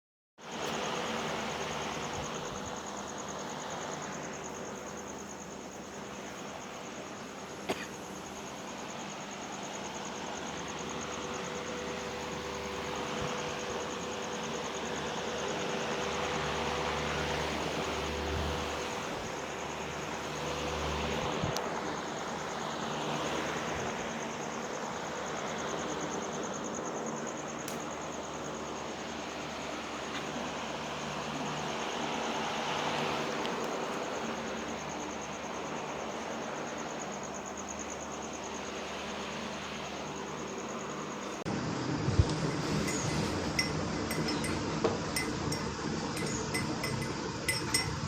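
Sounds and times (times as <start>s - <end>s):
constant low hum: 0.4s - 48.0s.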